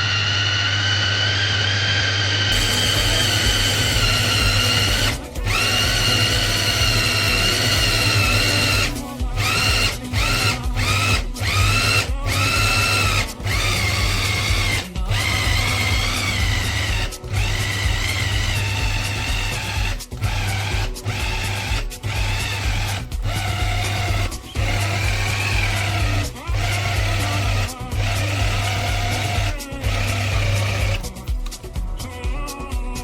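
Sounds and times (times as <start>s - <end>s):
food chopper motor whining: 0.0s - 31.5s.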